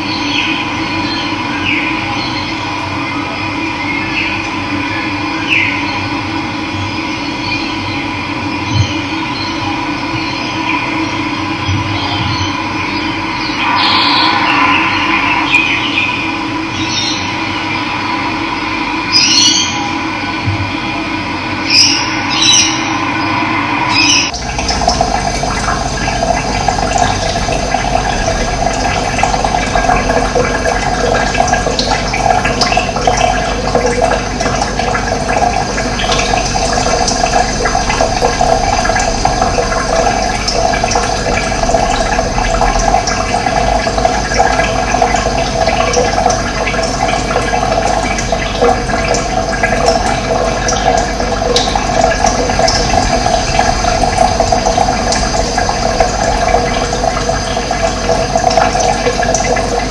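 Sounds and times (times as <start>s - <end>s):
running water flowing: 8.6s - 59.9s.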